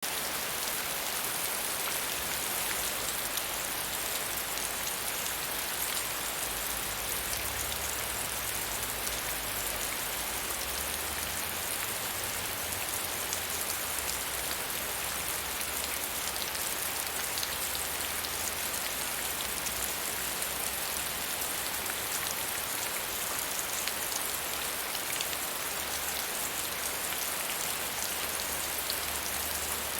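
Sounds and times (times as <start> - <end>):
rain on leaves and ground: 0.0 - 29.9.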